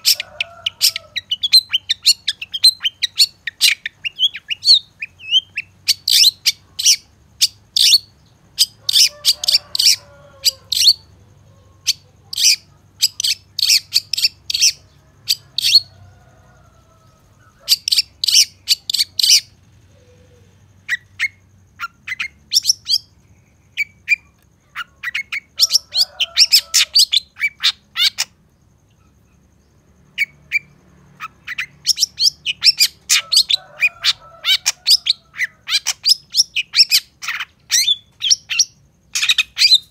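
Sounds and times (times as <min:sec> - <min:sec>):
bird singing high chirps: 0:00.0 - 0:15.9, 0:17.4 - 0:29.4, 0:30.1 - 0:39.9.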